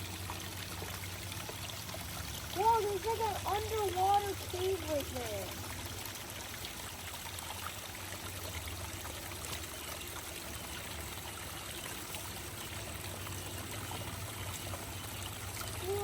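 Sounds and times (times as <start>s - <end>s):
creek water over rocks: 0.0s - 16.0s
water drips: 0.0s - 16.0s.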